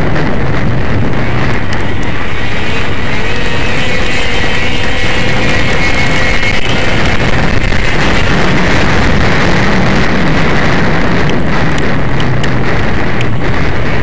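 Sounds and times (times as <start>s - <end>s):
snowmobile engine racing: 0.0s - 14.0s
wind rushing over microphone: 0.0s - 14.0s.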